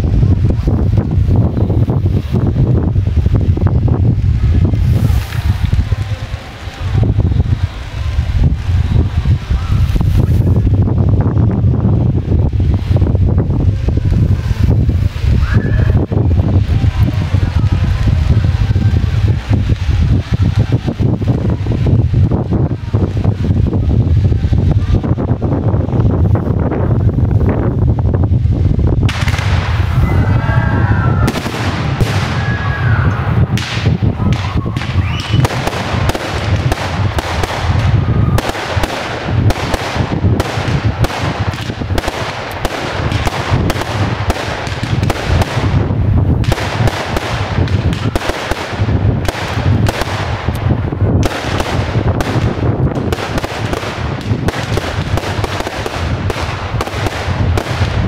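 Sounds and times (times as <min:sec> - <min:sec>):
fireworks launching and bursting: 0:00.0 - 0:58.0.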